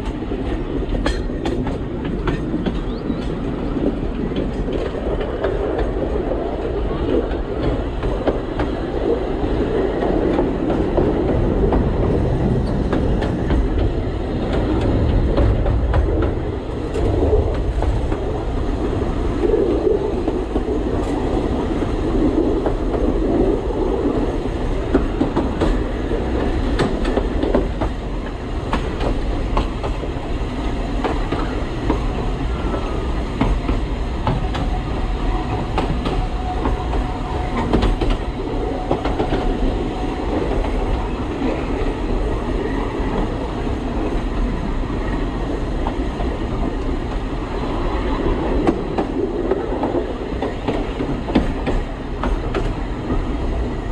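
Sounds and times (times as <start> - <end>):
wheels clicking over rail joints: 0.0 - 47.4
train rumbling along track: 0.0 - 53.9.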